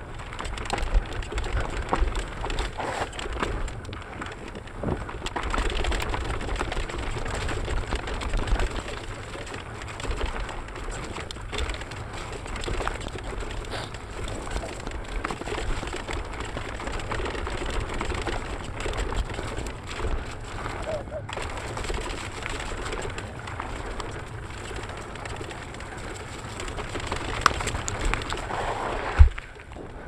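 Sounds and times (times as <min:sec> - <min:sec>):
bike rattling and knocking: 0:00.0 - 0:30.0
tyres on dirt: 0:00.0 - 0:30.0.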